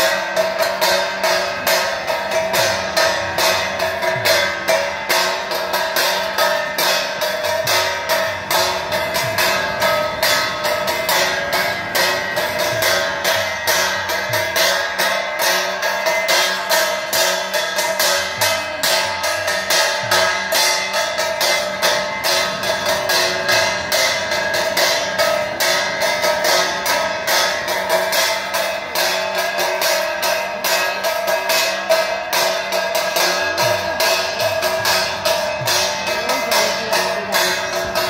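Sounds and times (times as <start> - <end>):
brass gongs struck: 0.0 - 38.0
hand cymbals struck: 0.0 - 38.0.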